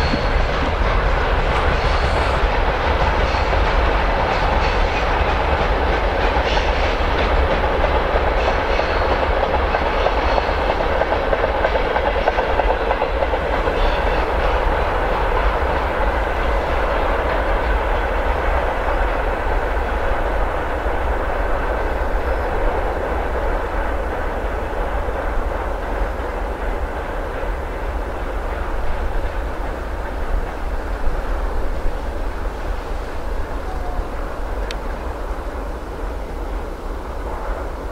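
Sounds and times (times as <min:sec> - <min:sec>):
freight train wheels rolling: 0:00.0 - 0:37.9.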